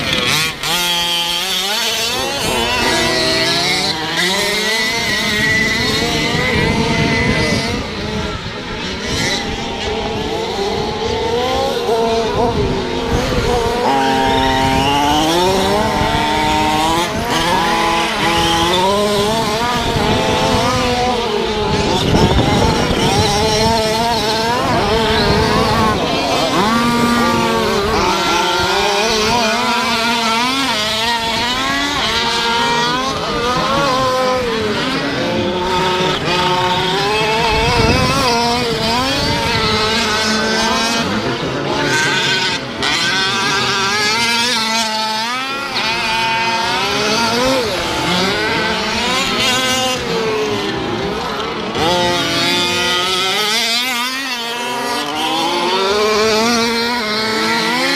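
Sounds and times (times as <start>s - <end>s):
small two-stroke engines revving: 0.0s - 57.9s.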